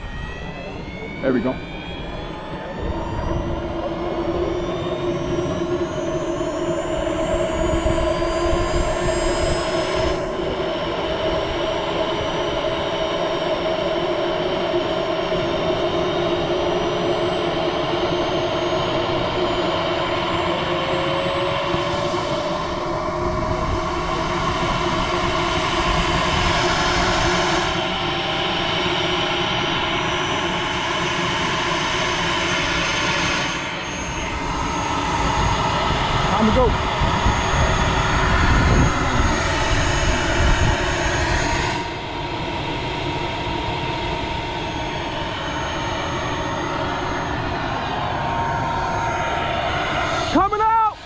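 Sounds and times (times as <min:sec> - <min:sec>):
jet turbine engine running: 0:00.0 - 0:51.0.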